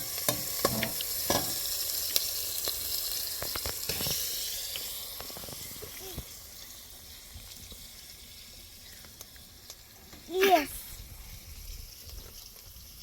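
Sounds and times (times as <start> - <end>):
food frying sizzle: 0.0 - 13.0.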